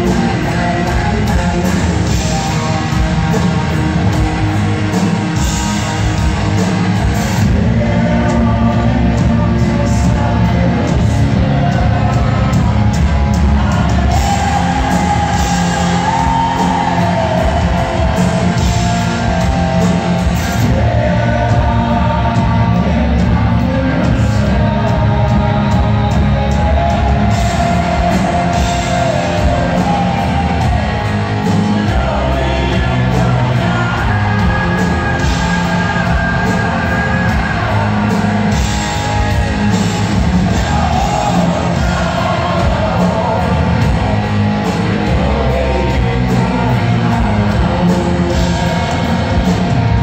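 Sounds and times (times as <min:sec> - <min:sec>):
bass guitar: 0:00.0 - 0:50.0
drums: 0:00.0 - 0:50.0
electric guitars: 0:00.0 - 0:50.0
person singing: 0:07.0 - 0:50.0.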